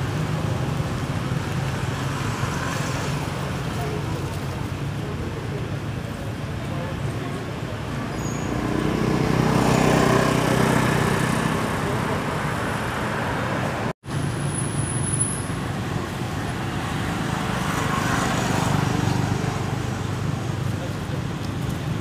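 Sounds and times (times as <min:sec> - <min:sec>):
vehicle engine and traffic noise: 0:00.0 - 0:22.0.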